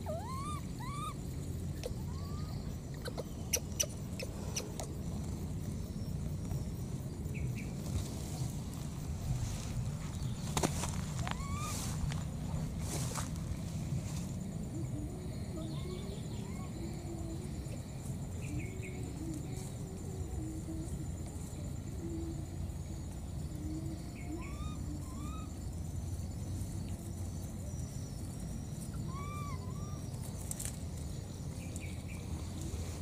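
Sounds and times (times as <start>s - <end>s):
high insect trill: 0.0s - 33.0s.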